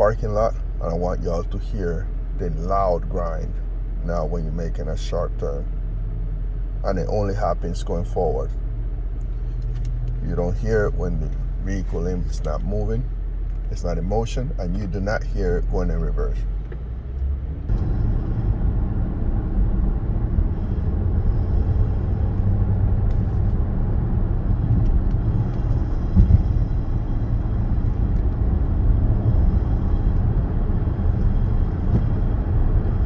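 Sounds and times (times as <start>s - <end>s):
road and drivetrain rumble: 0.0s - 33.0s.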